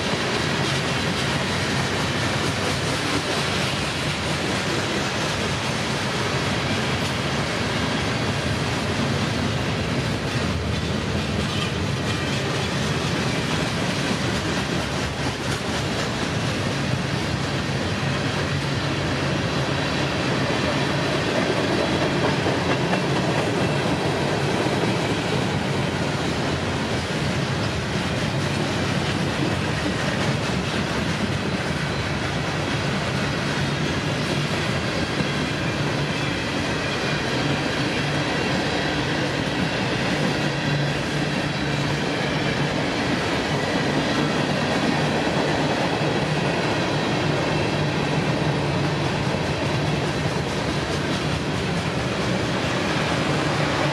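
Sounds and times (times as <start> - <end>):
train wheels on rails: 0.0 - 53.9.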